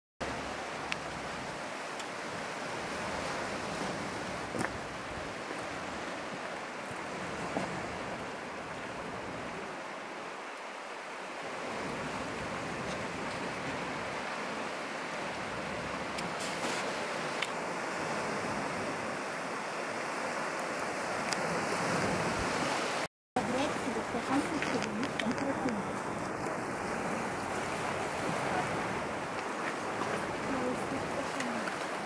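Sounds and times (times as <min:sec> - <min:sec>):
surf washing over rocks: 0:00.2 - 0:32.0.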